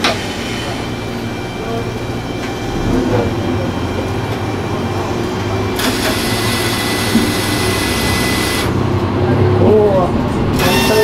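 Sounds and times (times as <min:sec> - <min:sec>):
railcar engine rumble: 0:00.0 - 0:11.0.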